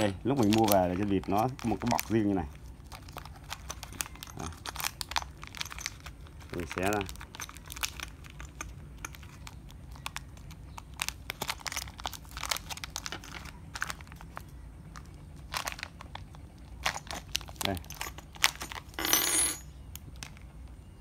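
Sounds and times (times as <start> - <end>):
blister packet crinkling: 0.5 - 18.8.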